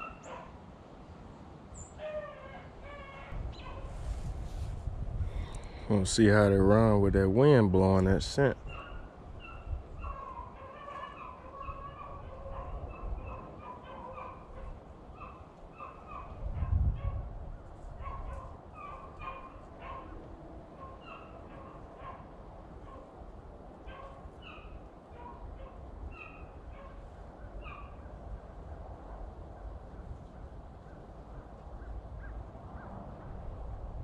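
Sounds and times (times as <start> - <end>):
beagles baying in the distance: 0.0 - 0.6, 1.7 - 4.6, 5.2 - 34.0
wind rumbling on microphone: 2.4 - 34.0.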